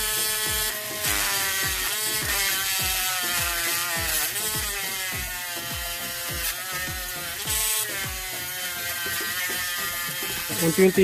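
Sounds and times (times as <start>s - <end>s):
rotary grinder whining: 0.0s - 11.0s.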